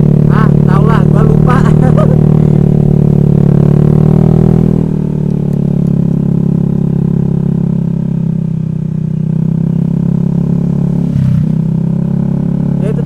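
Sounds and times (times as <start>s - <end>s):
scooter engine droning: 0.0s - 13.0s.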